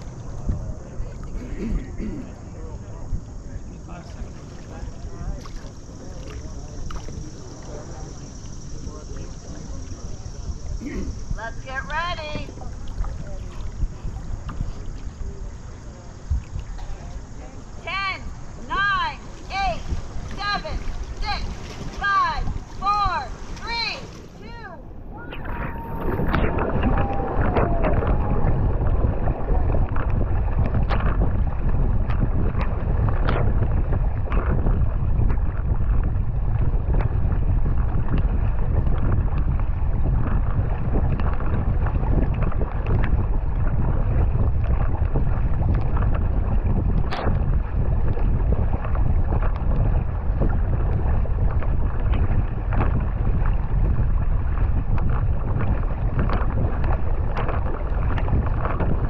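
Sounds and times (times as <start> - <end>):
paddle blades splashing: 0.0 - 59.0
wind and rushing water: 0.0 - 59.0.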